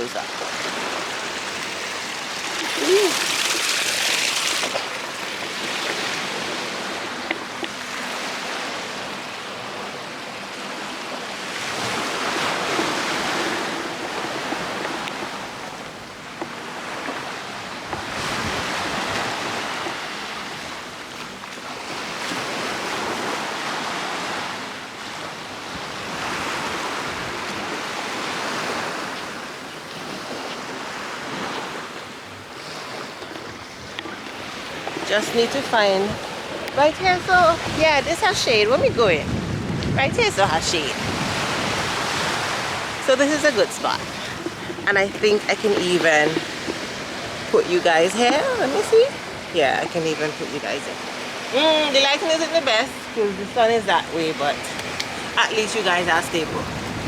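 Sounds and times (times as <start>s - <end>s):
sea waves washing onto beach: 0.0s - 57.0s.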